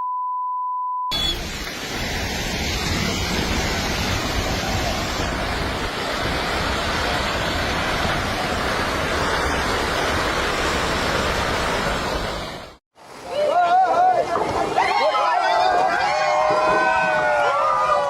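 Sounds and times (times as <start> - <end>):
landslide rushing roar: 1.2 - 18.0.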